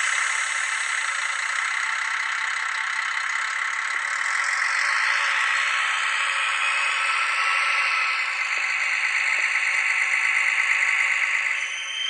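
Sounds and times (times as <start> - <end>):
diesel engine running: 0.0 - 11.6.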